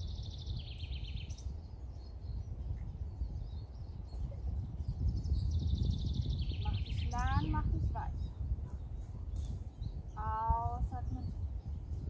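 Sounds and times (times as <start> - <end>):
songbird trilling: 0.0 - 11.8
bird chirps: 0.0 - 12.0
wind rumble on microphone: 0.0 - 12.0.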